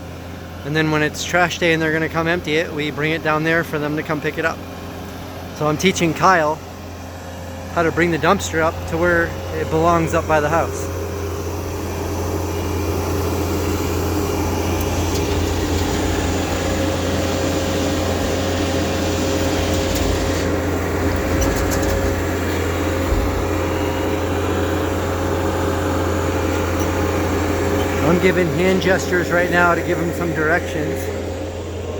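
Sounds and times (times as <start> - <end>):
diesel engine humming: 0.0 - 31.9
high machine whine: 0.0 - 31.9.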